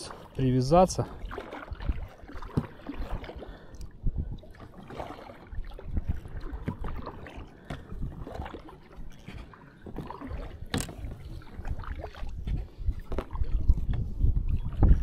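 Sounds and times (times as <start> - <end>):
paddle splashing through water: 0.0 - 15.0.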